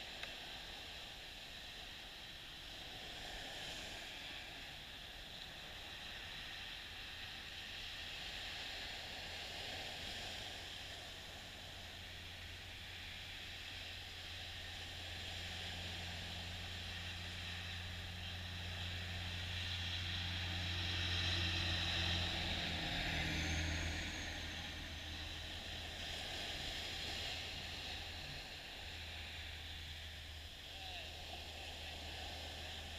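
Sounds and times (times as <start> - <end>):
low steady hum: 0.0 - 32.9
small waves breaking on beach: 0.0 - 32.9.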